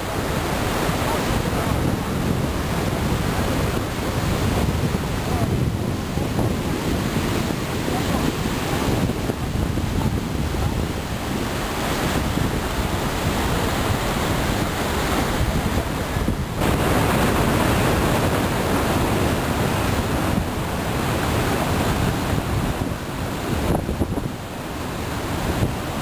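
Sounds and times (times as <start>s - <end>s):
waterfall rushing: 0.0s - 26.0s
wind buffeting microphone: 0.0s - 26.0s.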